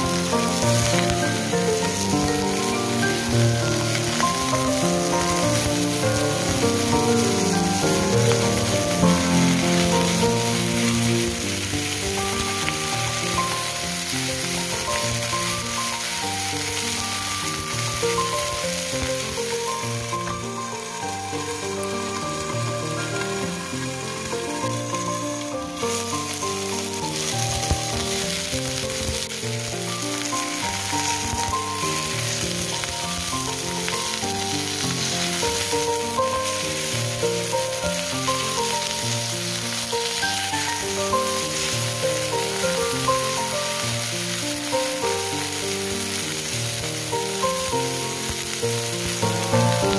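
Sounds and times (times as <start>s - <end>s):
background music: 0.0s - 49.9s
oil sizzling in a frying pan: 0.0s - 49.9s.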